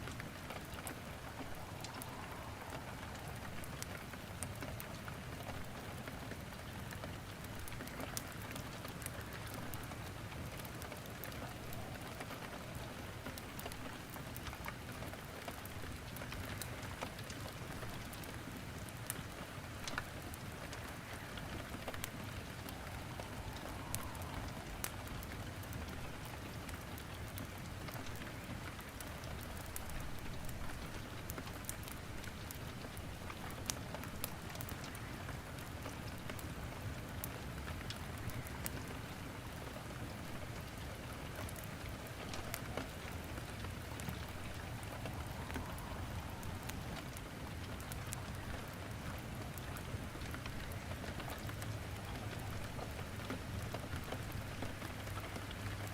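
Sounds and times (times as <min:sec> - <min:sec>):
steady rain: 0:00.0 - 0:55.9
wood crackling in fireplace: 0:00.0 - 0:55.9.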